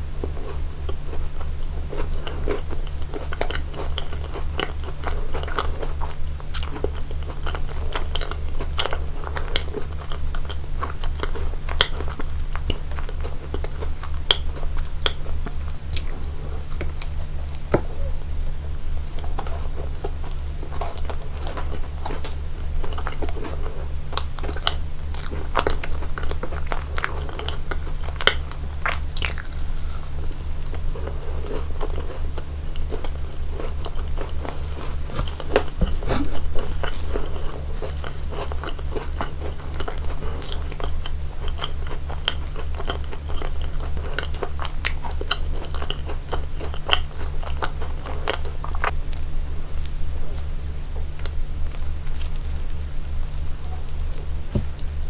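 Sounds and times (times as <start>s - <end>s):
chewing and biting cake: 0.0s - 52.9s.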